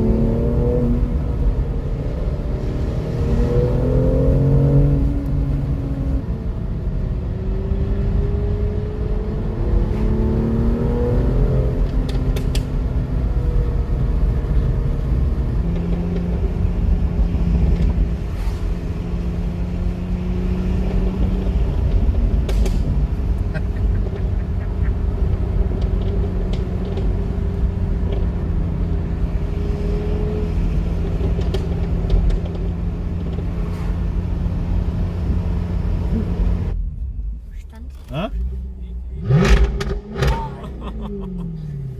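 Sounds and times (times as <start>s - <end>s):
car engine droning while driving: 0.0s - 41.9s.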